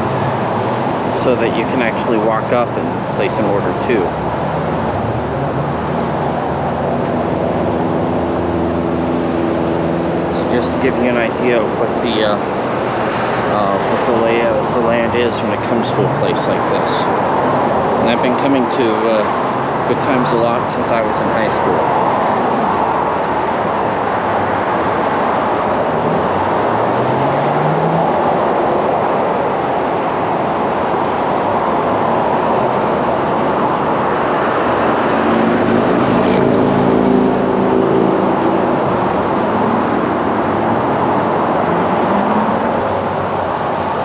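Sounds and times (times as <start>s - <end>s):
road traffic: 0.0s - 44.0s
vehicle engine rising in pitch: 0.0s - 44.0s.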